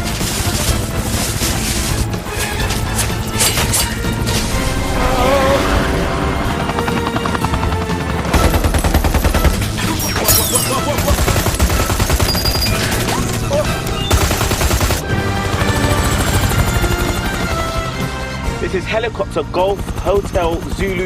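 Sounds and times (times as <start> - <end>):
background music: 0.0 - 21.0
helicopter rotor blades chopping: 0.0 - 21.0.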